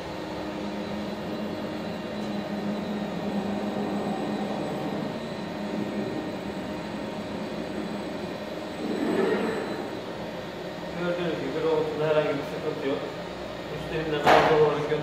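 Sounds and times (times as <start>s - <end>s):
robot arm motors humming: 0.0s - 13.9s.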